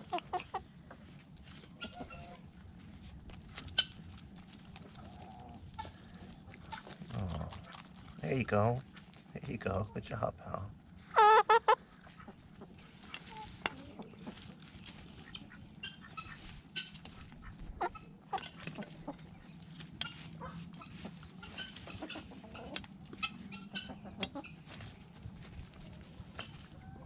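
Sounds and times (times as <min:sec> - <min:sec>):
poultry clucking: 0:00.0 - 0:27.0.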